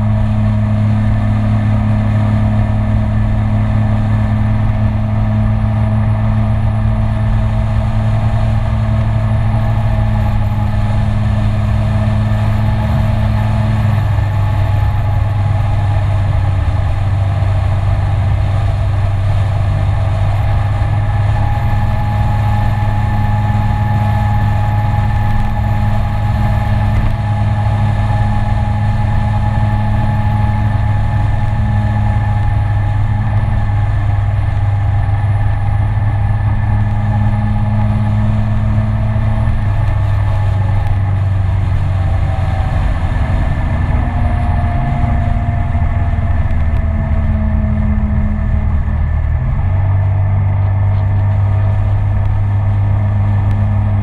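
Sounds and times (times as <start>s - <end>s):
scooter engine running: 0.0s - 54.0s.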